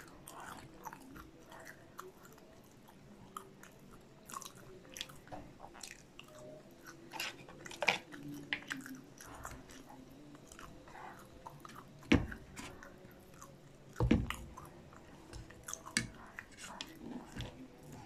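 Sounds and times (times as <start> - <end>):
chewing and biting food: 0.0 - 18.0.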